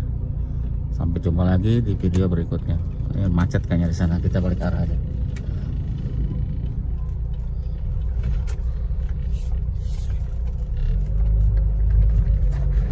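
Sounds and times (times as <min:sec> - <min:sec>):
car engine and road noise rumble: 0:00.0 - 0:12.9.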